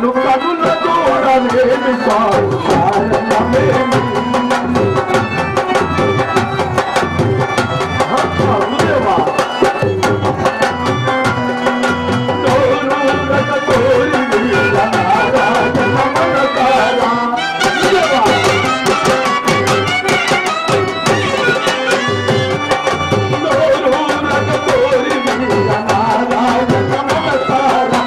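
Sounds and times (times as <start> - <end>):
held melody notes: 0.0 - 28.0
hand drum rhythm: 0.2 - 28.0.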